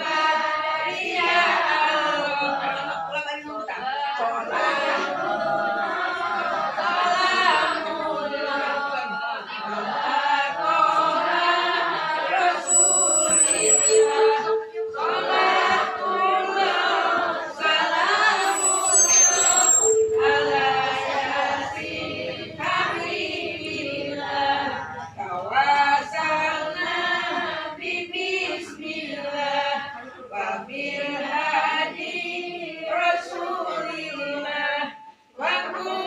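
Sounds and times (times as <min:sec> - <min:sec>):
women chanting in unison: 0:00.0 - 0:12.7, 0:14.1 - 0:18.6, 0:20.2 - 0:36.0.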